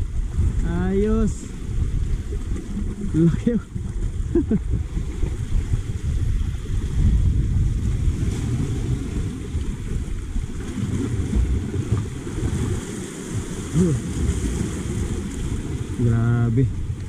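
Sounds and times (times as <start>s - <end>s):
surf washing against rocks: 0.0s - 17.0s
wind buffeting the microphone: 0.0s - 17.0s.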